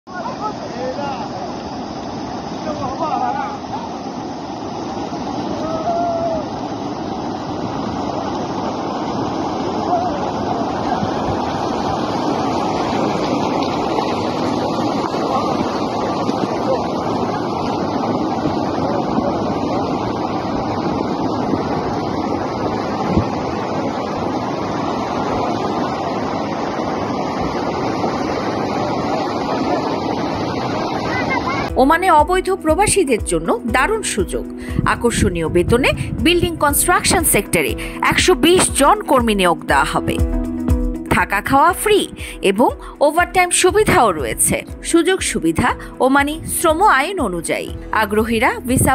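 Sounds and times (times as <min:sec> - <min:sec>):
floodwater rushing: 0:00.1 - 0:48.9.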